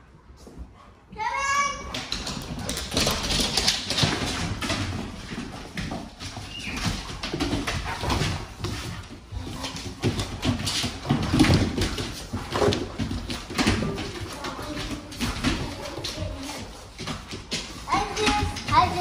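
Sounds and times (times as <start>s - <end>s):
dog claws clicking on tiles: 1.8s - 19.0s.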